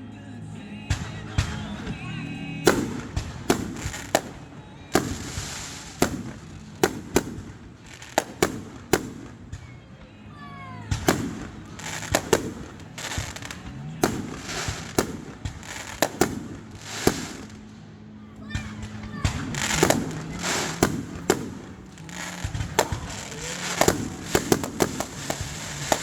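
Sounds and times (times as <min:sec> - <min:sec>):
fireworks bangs: 0:00.8 - 0:26.0
fireworks whistling: 0:00.9 - 0:26.0.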